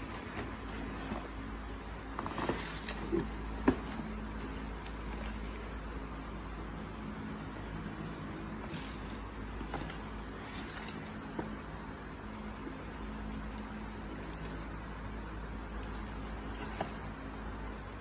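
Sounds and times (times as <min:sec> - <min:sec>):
cardboard rustling and scraping: 0:00.0 - 0:11.9, 0:12.6 - 0:18.0.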